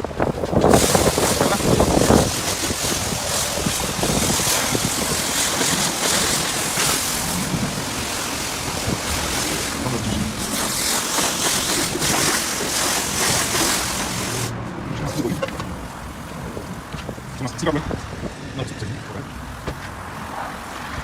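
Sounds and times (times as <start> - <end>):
pressure washer spraying car: 0.1 - 18.5.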